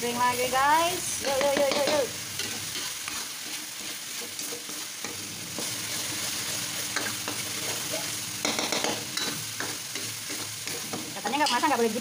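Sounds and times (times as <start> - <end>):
paste sizzling in a wok: 0.0 - 12.0
spatula scraping a wok: 1.2 - 11.8.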